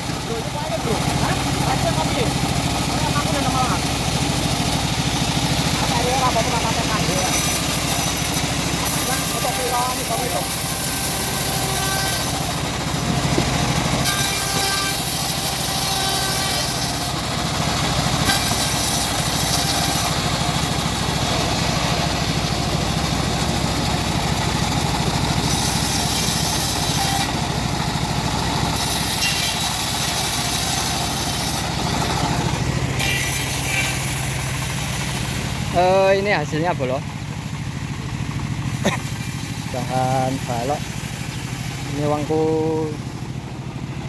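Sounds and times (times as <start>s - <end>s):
sawmill engine humming: 0.0s - 44.0s.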